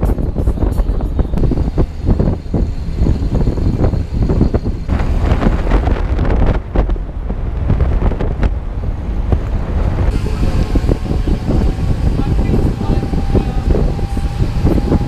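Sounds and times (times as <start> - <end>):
tuk tuk engine rumble: 0.0 - 15.0
wind buffeting microphone: 0.0 - 15.0.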